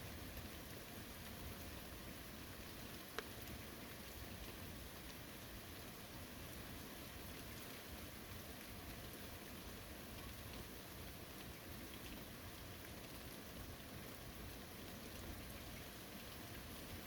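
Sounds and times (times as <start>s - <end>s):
faint rain: 0.0s - 17.0s.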